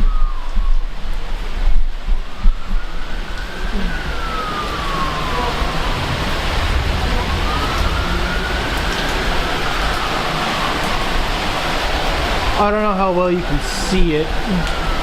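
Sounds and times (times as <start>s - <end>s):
emergency siren wailing: 0.0s - 15.0s
heavy rain pouring: 0.0s - 15.0s.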